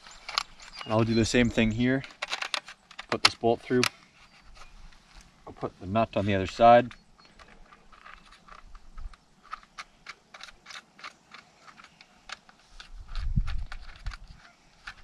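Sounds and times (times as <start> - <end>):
small metal clicks and crinkles: 0.0 - 5.3, 6.1 - 15.0.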